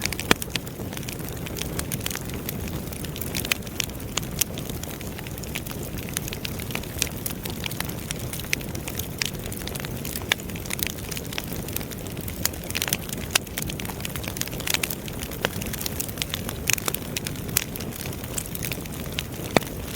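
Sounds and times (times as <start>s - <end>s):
fire crackling: 0.0s - 19.9s
low fire rumble: 0.0s - 19.9s.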